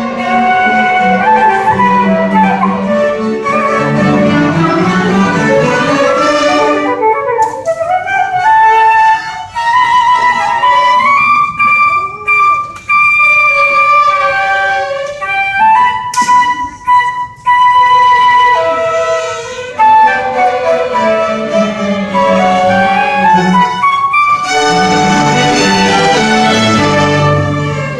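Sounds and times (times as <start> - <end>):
string ensemble: 0.0 - 12.9, 18.0 - 27.9
flute playing slow melody: 0.0 - 27.9
orchestra playing: 0.0 - 27.9.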